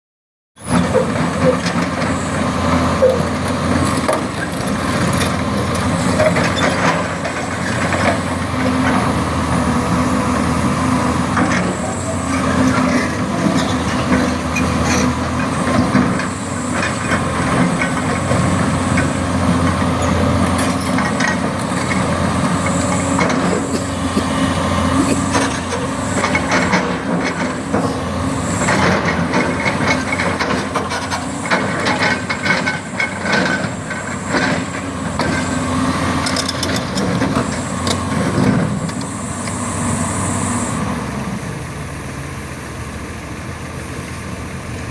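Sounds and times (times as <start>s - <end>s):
excavator diesel engine running: 0.6s - 44.9s.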